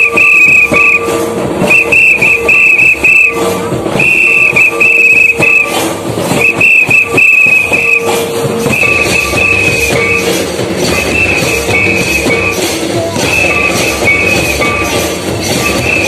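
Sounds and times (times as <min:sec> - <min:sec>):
shrill high pipe melody: 0:00.0 - 0:16.0.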